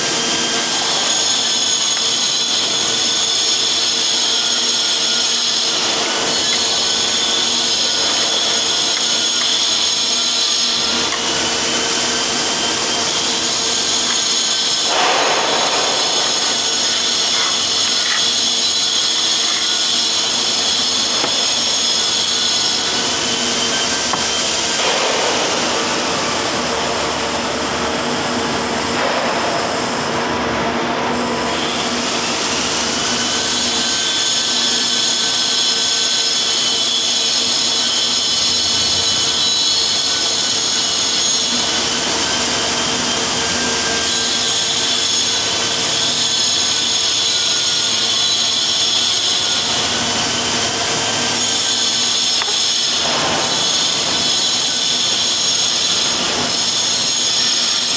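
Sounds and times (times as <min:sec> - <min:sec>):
machine whine with hiss: 0:00.0 - 0:57.9.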